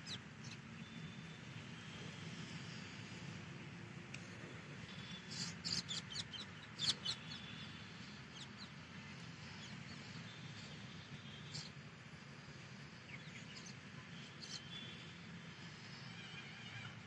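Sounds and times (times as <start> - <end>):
small birds chirping: 0.0 - 3.4, 4.1 - 17.0
low outdoor hum: 0.0 - 17.0.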